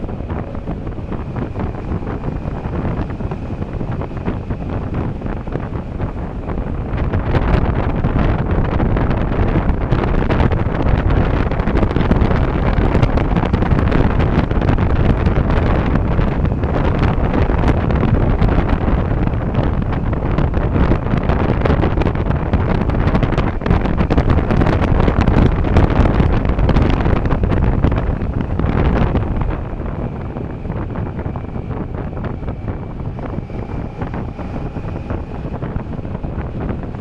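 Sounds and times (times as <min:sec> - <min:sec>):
motorcycle running and road noise: 0:00.0 - 0:37.0
wind buffeting microphone: 0:00.0 - 0:37.0.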